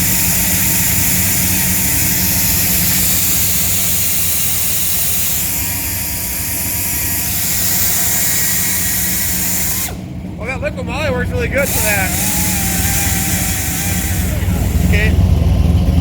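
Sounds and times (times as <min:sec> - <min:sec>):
faint steady whine: 0:00.0 - 0:15.4
car engine running: 0:00.0 - 0:16.0.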